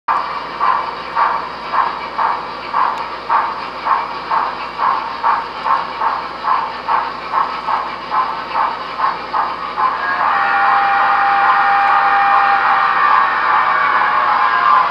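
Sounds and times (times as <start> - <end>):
model steam locomotive chuffing: 0.1 - 14.9.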